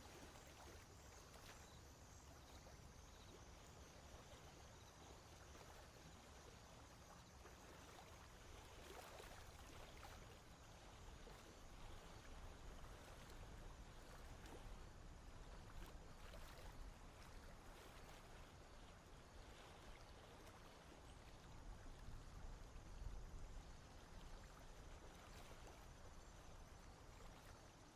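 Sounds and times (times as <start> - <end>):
faint splashes: 0.0 - 27.9
soft water sounds: 0.0 - 27.9.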